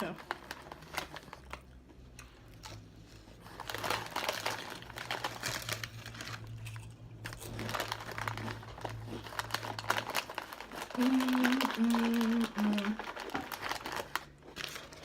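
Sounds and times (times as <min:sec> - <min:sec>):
food wrapper crinkling: 0:00.0 - 0:15.0.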